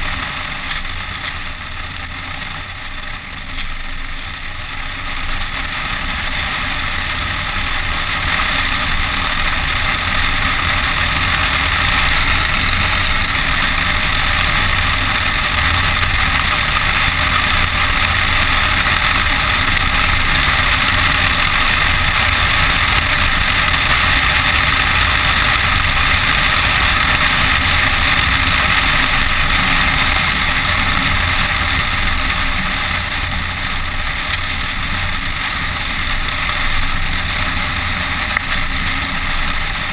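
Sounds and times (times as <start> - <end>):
wind rush and road noise: 0.0 - 39.9.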